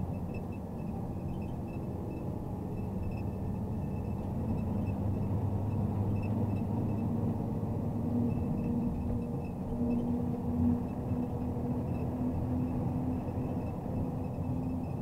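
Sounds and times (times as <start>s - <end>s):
diesel truck engine humming: 0.0s - 15.0s.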